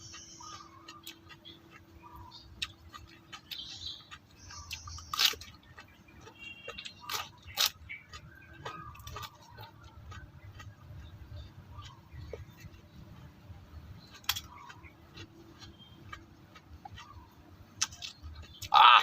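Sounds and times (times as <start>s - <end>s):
chewing crunchy vegetable: 0.0s - 19.0s.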